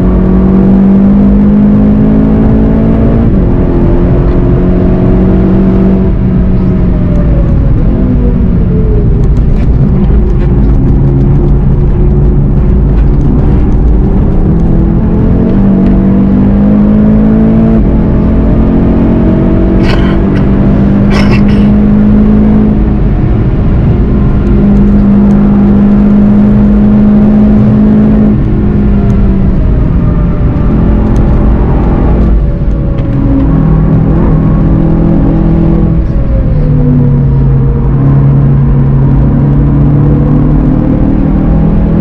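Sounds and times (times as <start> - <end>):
car engine accelerating: 0.0 - 42.0
road and tyre noise: 0.0 - 42.0.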